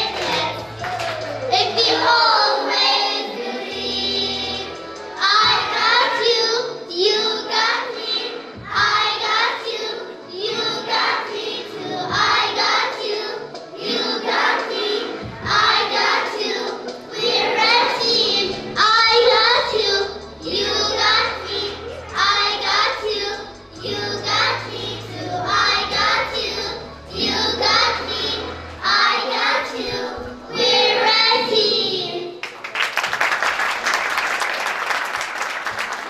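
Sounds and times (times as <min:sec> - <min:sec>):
children singing: 0:00.0 - 0:32.4
musical accompaniment: 0:00.0 - 0:36.0.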